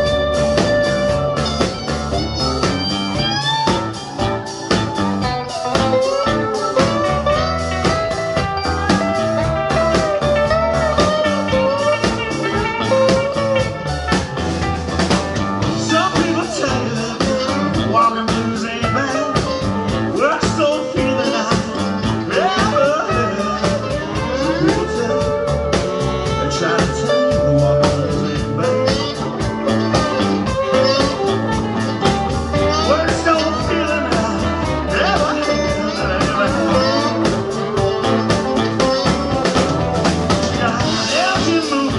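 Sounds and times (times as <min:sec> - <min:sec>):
bass guitar: 0:00.0 - 0:41.9
drum kit: 0:00.0 - 0:41.9
electric guitars: 0:00.0 - 0:41.9
saxophone melody: 0:00.0 - 0:41.9.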